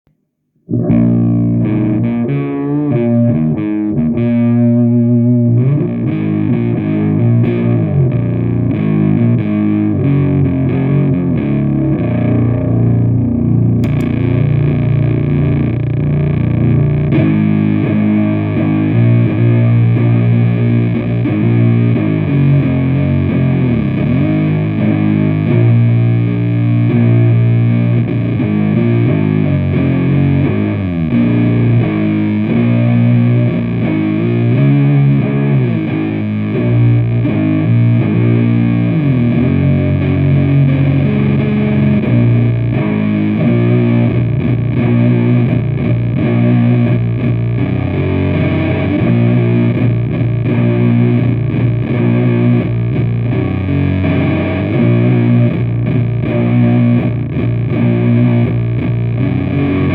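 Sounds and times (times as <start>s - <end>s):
distorted electric guitar riff: 0.6s - 59.9s.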